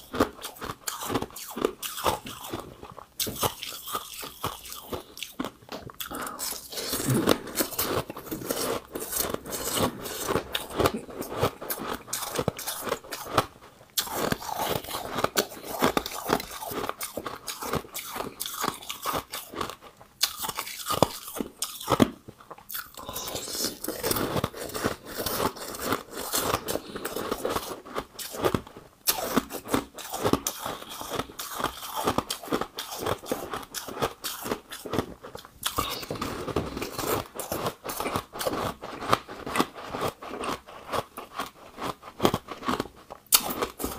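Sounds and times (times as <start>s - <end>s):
ice crunching while chewed: 0.0s - 43.9s.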